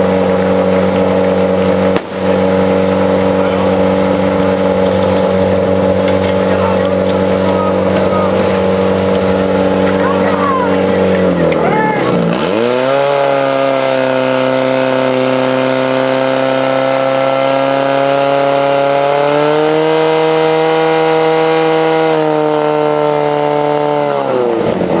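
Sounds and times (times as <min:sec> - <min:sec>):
fire pump engine running: 0:00.0 - 0:25.0.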